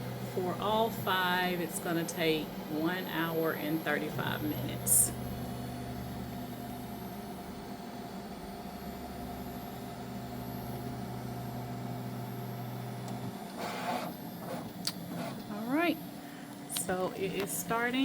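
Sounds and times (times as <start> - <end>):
printer fans and motors humming: 0.0 - 18.0.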